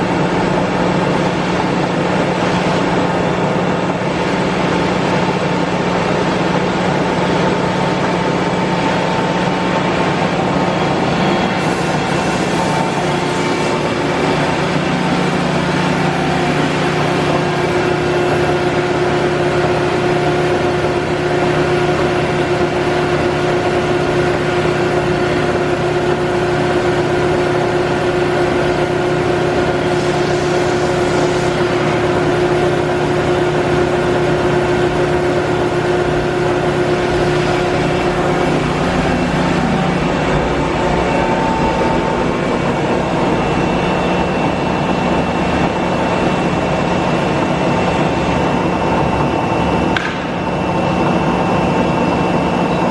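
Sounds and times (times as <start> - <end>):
grinder machine humming: 0.0 - 52.9.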